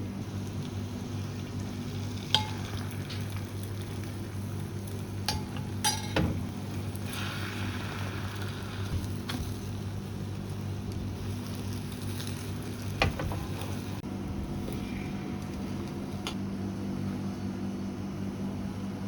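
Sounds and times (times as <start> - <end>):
steady low hum: 0.0 - 19.0
egg sizzling in a pan: 0.2 - 16.4.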